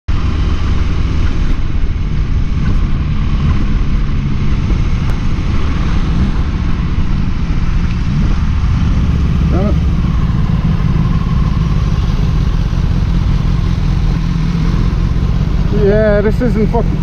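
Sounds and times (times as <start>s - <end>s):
motorcycle engine running: 0.1s - 17.0s
wind rumble on microphone: 0.1s - 17.0s.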